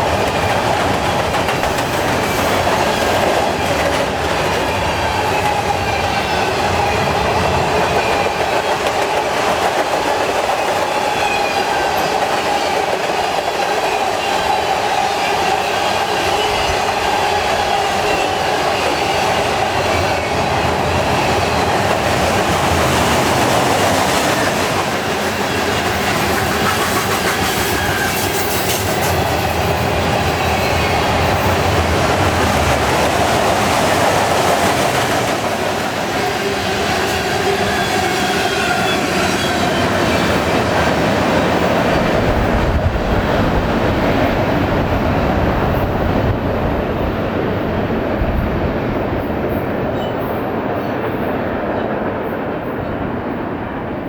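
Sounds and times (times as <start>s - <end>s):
clickety-clack over rail joints: 0.0s - 53.4s
train wheels rumbling on rail: 0.0s - 54.0s.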